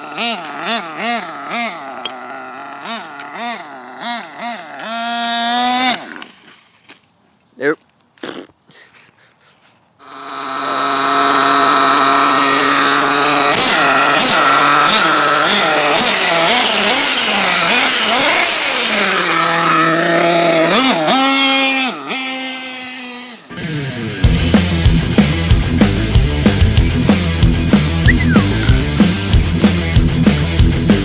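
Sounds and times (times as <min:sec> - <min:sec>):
nitro engine revving: 0:00.0 - 0:06.5, 0:10.0 - 0:31.0.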